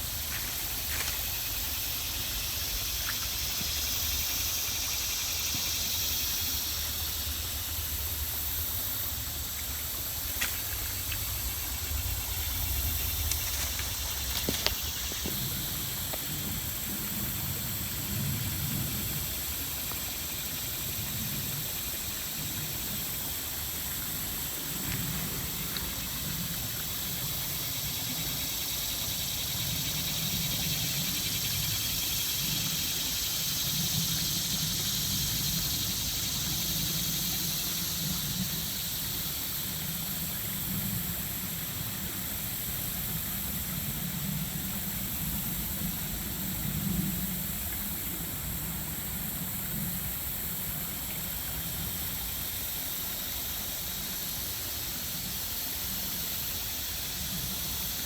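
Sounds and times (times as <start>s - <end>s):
high hiss: 0.0s - 58.0s.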